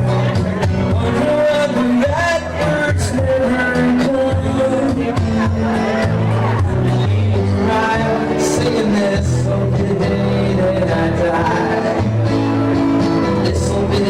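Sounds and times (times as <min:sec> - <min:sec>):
country music with singing and guitar: 0:00.0 - 0:14.0.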